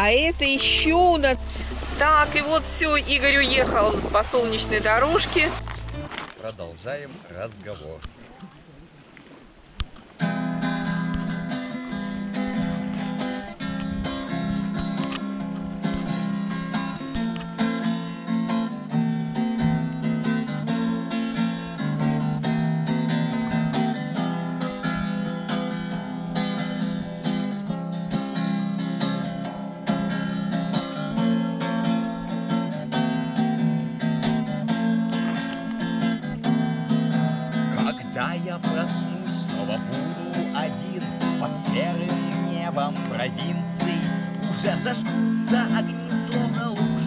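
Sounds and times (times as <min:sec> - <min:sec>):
acoustic guitar strummed chords: 0:00.0 - 0:06.1, 0:10.2 - 0:47.0.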